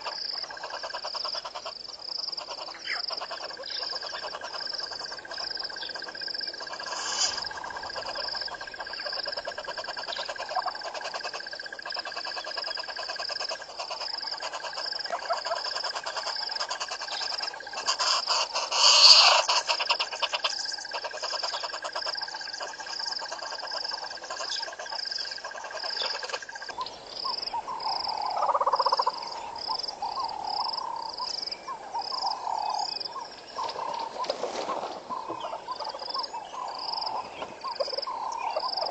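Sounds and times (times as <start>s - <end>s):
insect high trill: 0.0s - 34.2s
bird calls: 0.0s - 38.9s.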